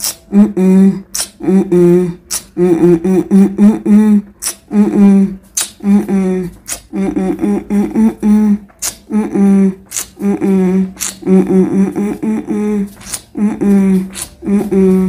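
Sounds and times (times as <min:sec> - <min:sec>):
wordless hummed vocal melody: 0:00.0 - 0:15.0.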